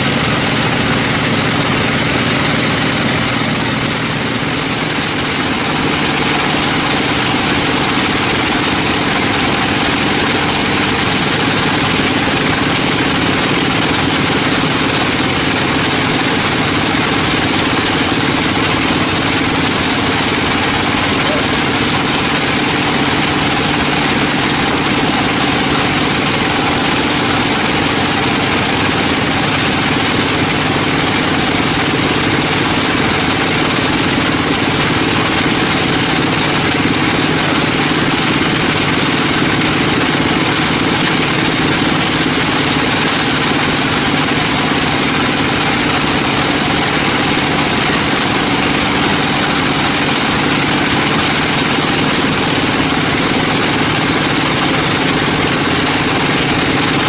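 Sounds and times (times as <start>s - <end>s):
engine hum: 0.0s - 57.0s
sawmill machinery noise: 0.0s - 57.0s.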